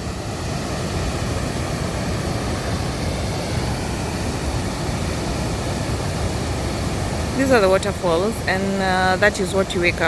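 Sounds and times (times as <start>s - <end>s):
waterfall roar: 0.0s - 10.0s.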